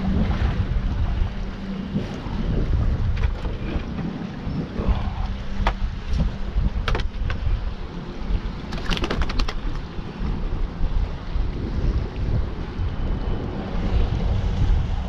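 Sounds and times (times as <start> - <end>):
water lapping: 0.0 - 14.5
wind buffeting microphone: 0.0 - 15.0.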